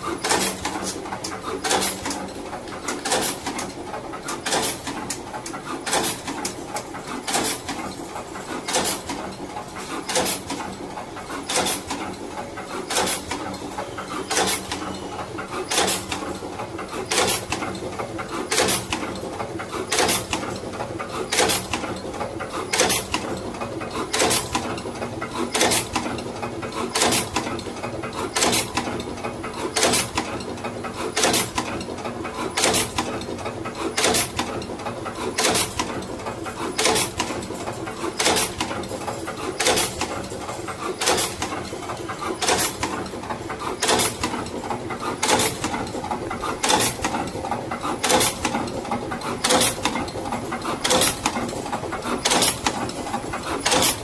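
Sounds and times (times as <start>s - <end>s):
steady mechanical hum: 0.0s - 54.0s
wire cutting machine clacking: 0.0s - 54.0s.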